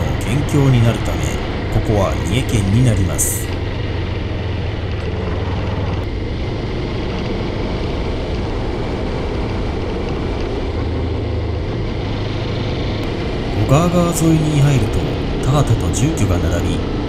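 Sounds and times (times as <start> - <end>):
tyre and road noise: 0.0 - 17.0
vehicle engine hum: 0.0 - 17.0.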